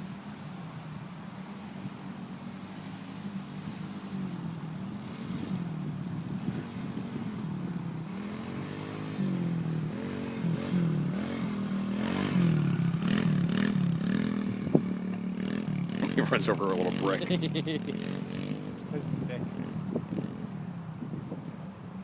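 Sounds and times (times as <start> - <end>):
dirt bike engine revving: 2.8 - 21.0.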